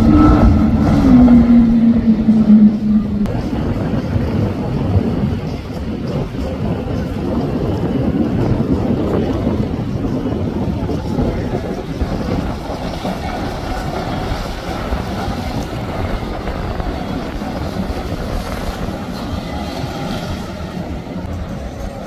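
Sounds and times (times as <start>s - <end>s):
boat outboard motors: 0.0s - 22.0s
water rushing off hull: 0.0s - 22.0s
wind buffeting microphone: 0.0s - 22.0s.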